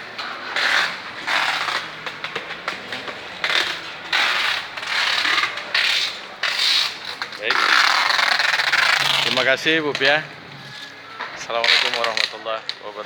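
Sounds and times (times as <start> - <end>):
scraping and rustling handling noise: 0.1 - 13.0.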